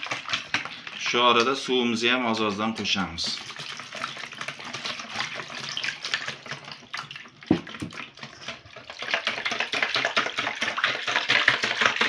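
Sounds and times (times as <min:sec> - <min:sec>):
whisk beating eggs in bowl: 0:00.0 - 0:12.0.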